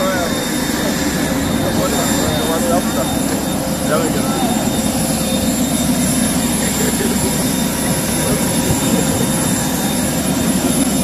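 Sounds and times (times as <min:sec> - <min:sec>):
jet turbine engines running: 0:00.0 - 0:11.0.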